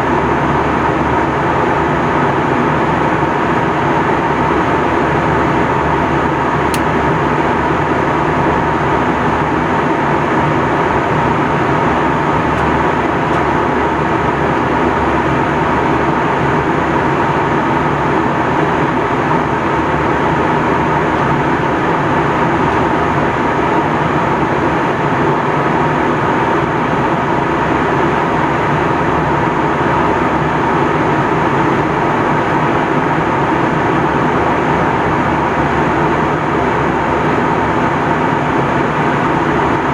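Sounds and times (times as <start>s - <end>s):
airplane cabin engine and airflow noise: 0.0s - 39.9s.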